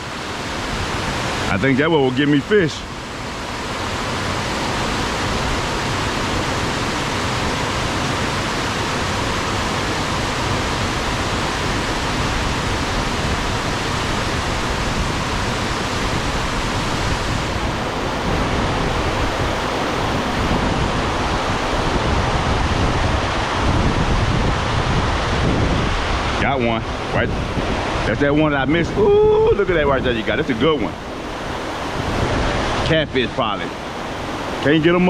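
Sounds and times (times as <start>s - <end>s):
rushing flowing water: 0.0s - 35.0s.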